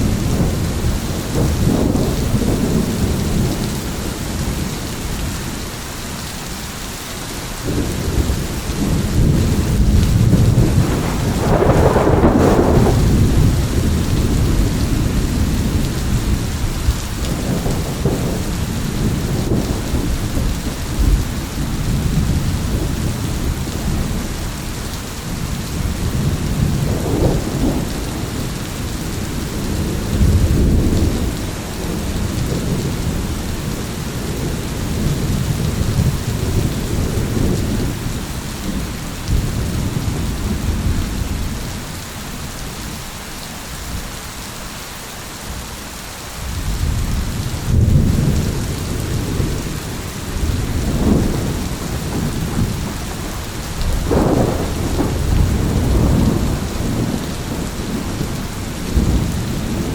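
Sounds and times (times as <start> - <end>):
thunder rumbling: 0.0 - 5.7, 7.6 - 43.0, 46.4 - 59.9
steady rain: 0.0 - 59.9.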